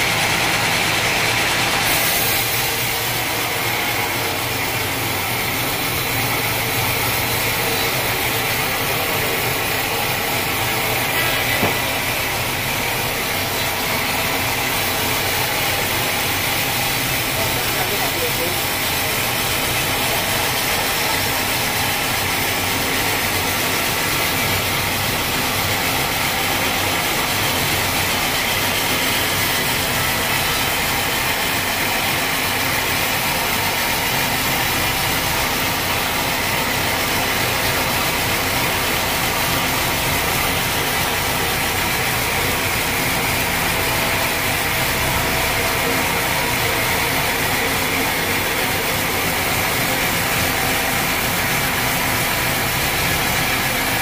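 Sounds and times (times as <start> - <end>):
band saw blade whine: 1.2 - 54.0.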